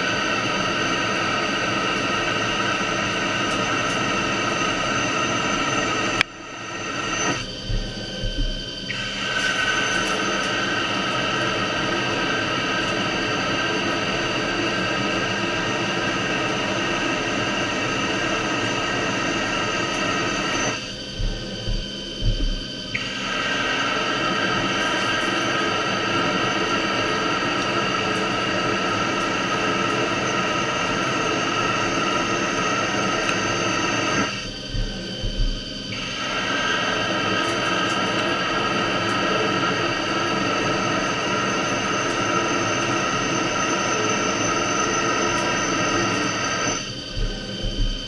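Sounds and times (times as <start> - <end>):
lathe cutting whine and hiss: 0.0 - 48.0.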